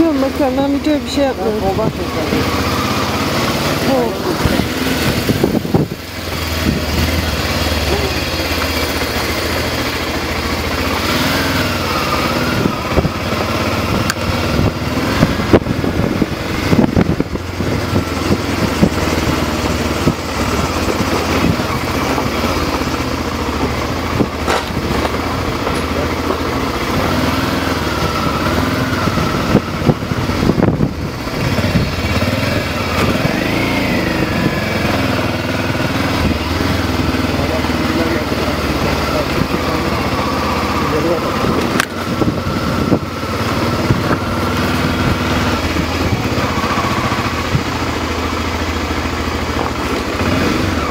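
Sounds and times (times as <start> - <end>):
car engine running: 0.0 - 50.9
tyres rumbling over gravel: 0.0 - 50.9.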